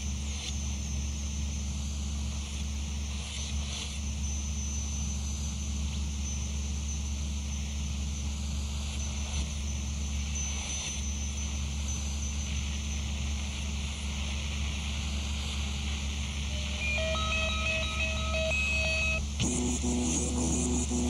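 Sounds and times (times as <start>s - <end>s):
noise drone with hum and hiss: 0.0s - 21.0s.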